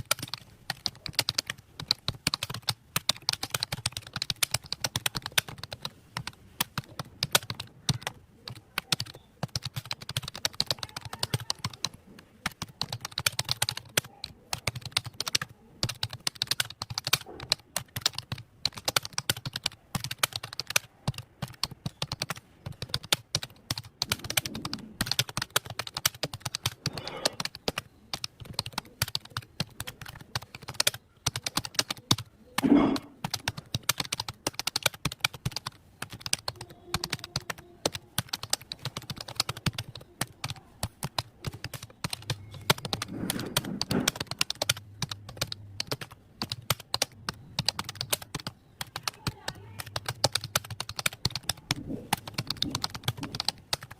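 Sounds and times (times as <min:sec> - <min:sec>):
typing on computer keyboard: 0:00.0 - 0:53.9.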